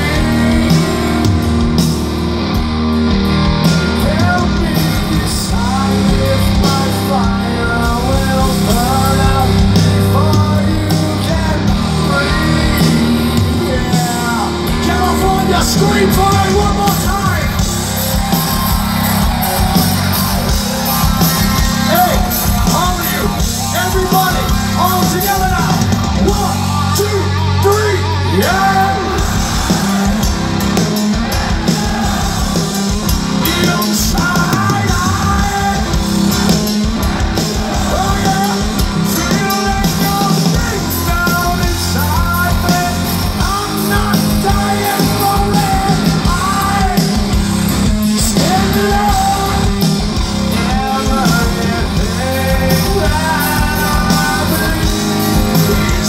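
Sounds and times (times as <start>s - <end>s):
live rock band playing: 0.0s - 56.0s
singer singing and yelling: 0.0s - 56.0s.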